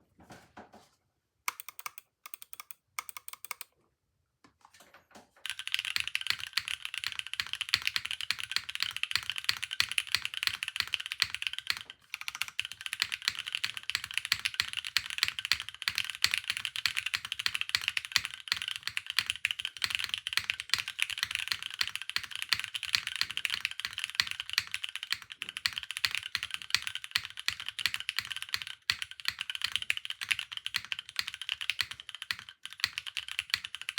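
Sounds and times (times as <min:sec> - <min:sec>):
mechanical keyboard typing: 0:01.5 - 0:03.7, 0:05.4 - 0:33.9.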